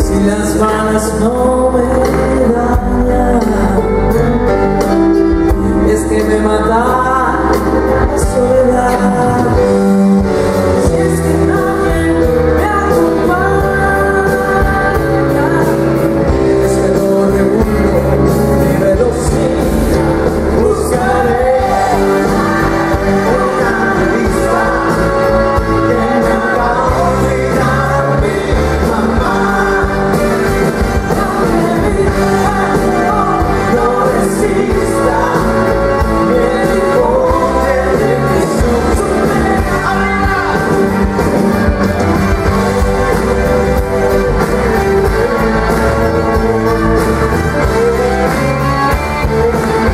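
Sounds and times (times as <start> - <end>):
pop-rock band playing: 0.0 - 49.9
woman singing lead: 0.0 - 49.9.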